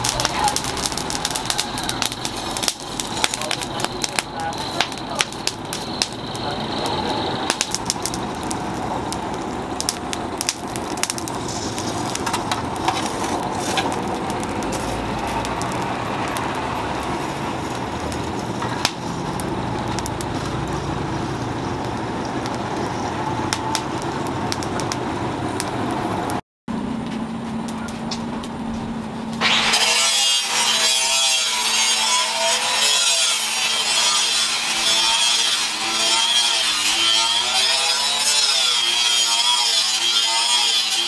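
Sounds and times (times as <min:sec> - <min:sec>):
forge fire roaring: 0:00.0 - 0:40.2
coals crackling and popping: 0:00.0 - 0:41.0.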